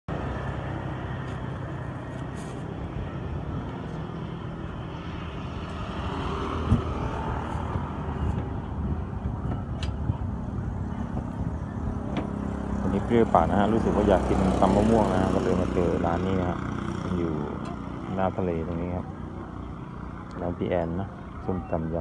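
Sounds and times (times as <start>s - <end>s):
low rumble of traffic: 0.1s - 22.0s.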